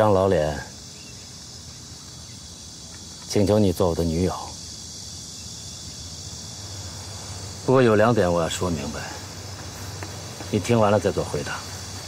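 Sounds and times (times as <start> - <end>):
high insect chirring: 0.0 - 12.0.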